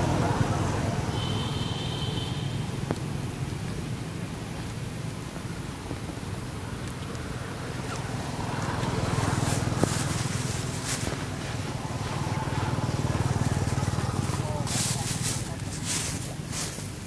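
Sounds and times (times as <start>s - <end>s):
low outdoor rumble: 2.5s - 17.0s.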